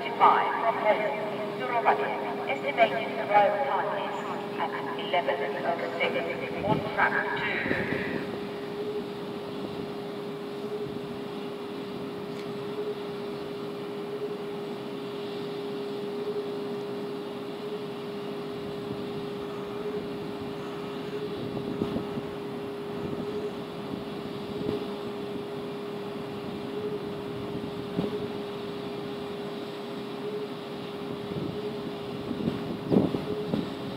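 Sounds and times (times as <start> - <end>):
steady electric hum: 0.0 - 33.9.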